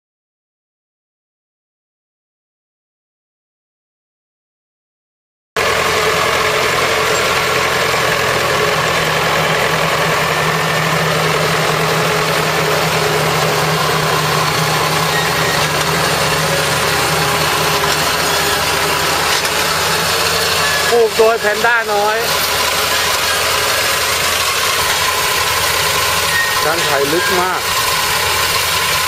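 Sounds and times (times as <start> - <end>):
tractor engine running: 5.6 - 29.0.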